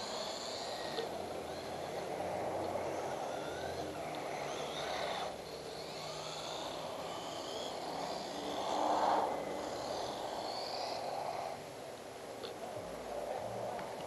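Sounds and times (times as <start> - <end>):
faint motor whine: 0.0 - 14.0
rc car motor and tyres hissing: 0.0 - 14.0.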